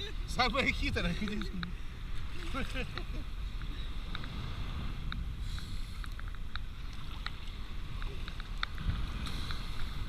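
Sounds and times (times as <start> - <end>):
water splashing: 0.0 - 10.0
wind rumbling on microphone: 0.0 - 10.0.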